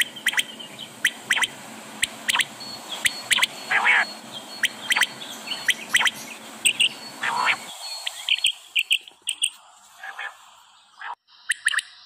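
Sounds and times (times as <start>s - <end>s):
background hiss: 0.0s - 12.0s
birds chirping: 0.0s - 12.0s.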